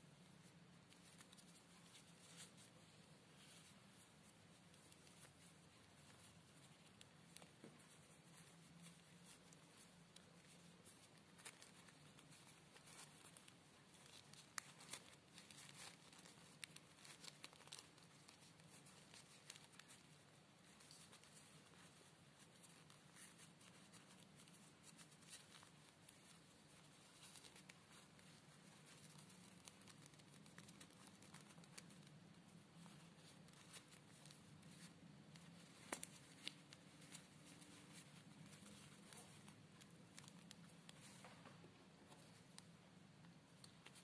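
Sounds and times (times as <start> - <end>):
fabric rustling: 0.2 - 42.7.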